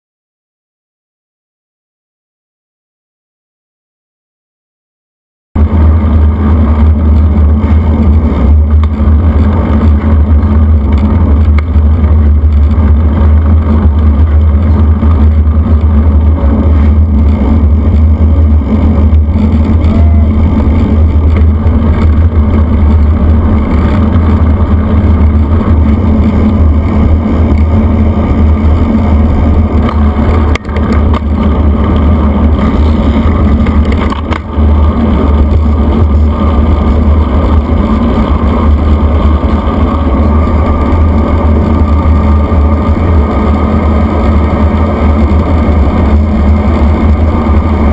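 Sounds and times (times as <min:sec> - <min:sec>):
tyre noise on pavement: 0:05.6 - 0:47.9
wind buffeting microphone: 0:05.6 - 0:47.9.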